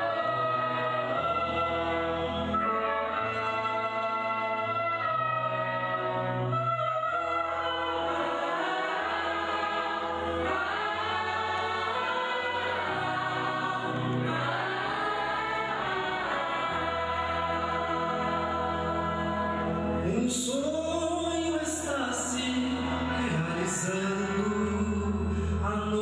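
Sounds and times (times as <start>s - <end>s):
choir singing sacred music: 0.0s - 26.0s.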